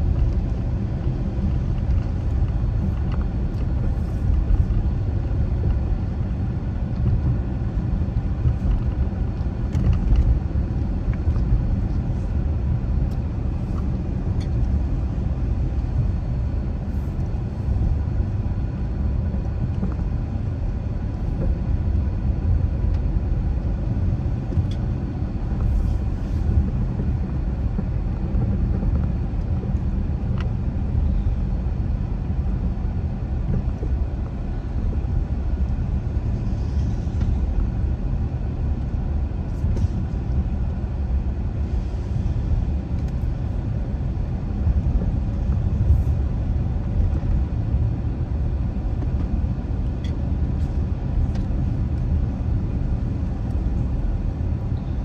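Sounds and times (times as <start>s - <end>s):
car driving road rumble: 0.0s - 55.0s.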